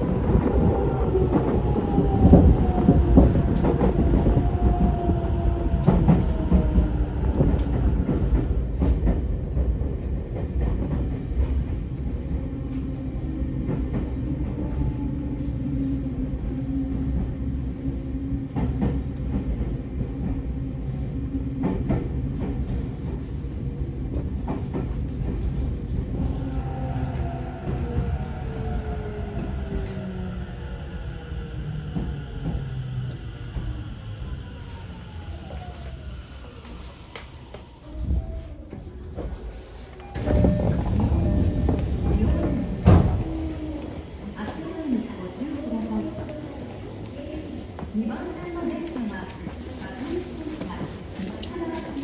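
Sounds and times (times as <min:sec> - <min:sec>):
train wheels rumbling and clicking: 0:00.0 - 0:52.0.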